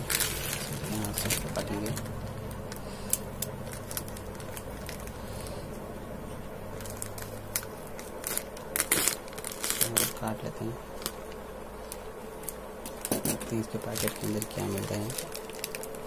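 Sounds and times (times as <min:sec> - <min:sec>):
plastic bag crinkling: 0:00.0 - 0:05.7, 0:06.7 - 0:16.0.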